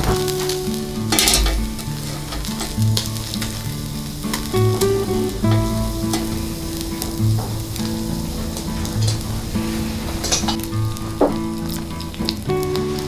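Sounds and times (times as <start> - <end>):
food sizzling over a fire: 0.0 - 13.0
slow background music: 0.0 - 13.0.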